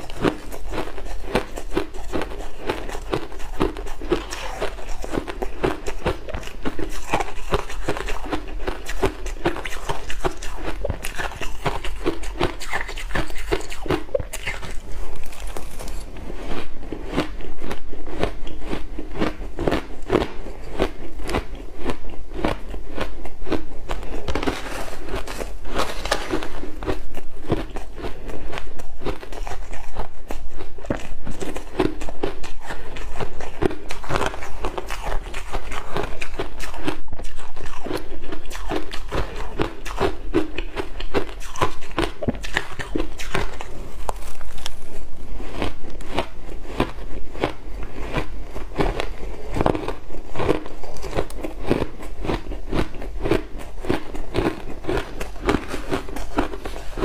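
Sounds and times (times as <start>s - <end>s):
chewing crushed ice: 0.0s - 57.0s.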